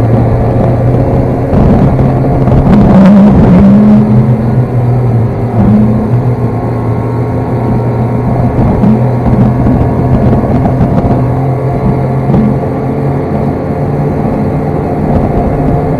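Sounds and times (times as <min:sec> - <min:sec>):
snowmobile engine running: 0:00.0 - 0:15.9.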